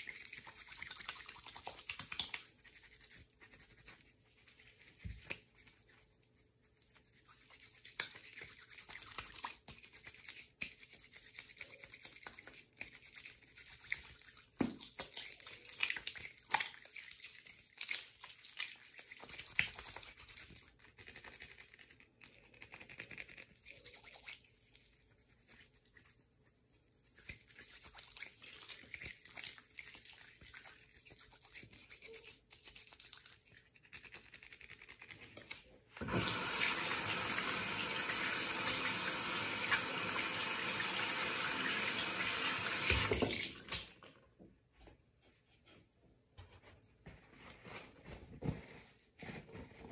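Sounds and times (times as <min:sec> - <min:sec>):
soapy hands rubbing together: 0:00.0 - 0:44.0.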